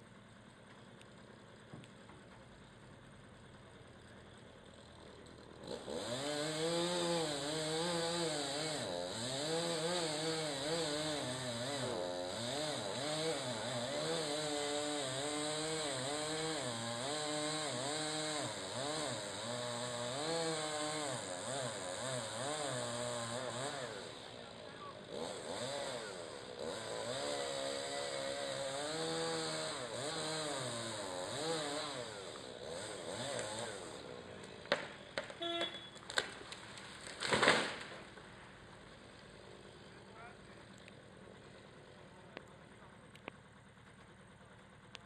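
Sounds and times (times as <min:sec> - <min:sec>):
chainsaw cutting tree trunk: 0:04.5 - 0:44.2.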